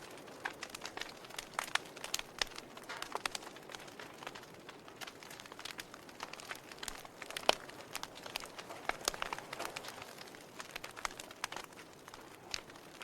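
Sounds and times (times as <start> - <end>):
fire crackling and popping: 0.0 - 13.0
soft steady fire hiss: 0.0 - 13.0.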